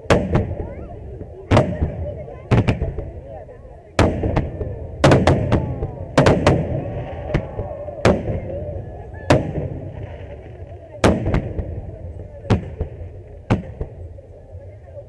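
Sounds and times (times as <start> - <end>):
fireworks bangs: 0.0 - 3.4, 4.0 - 14.1.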